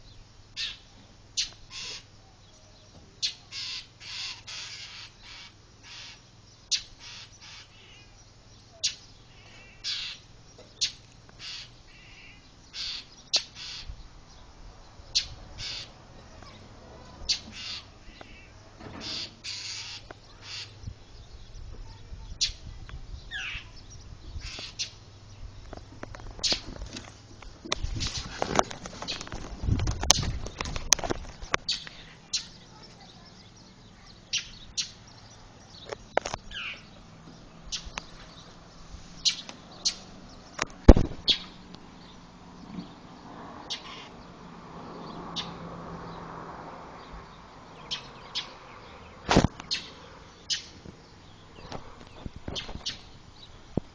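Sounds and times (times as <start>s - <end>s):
birds' harsh alarm calls: 0.0s - 2.2s, 3.2s - 46.1s, 47.2s - 53.7s.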